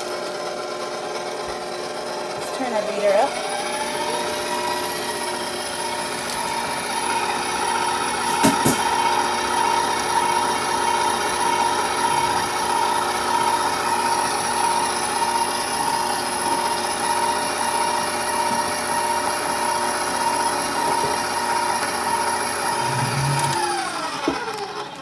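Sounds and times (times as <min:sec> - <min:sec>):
stand mixer whirring: 0:00.0 - 0:25.0
whisk beating in metal bowl: 0:00.4 - 0:23.9.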